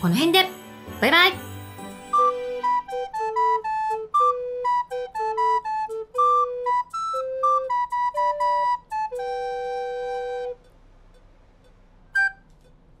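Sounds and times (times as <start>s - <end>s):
recorder melody: 2.0s - 12.6s.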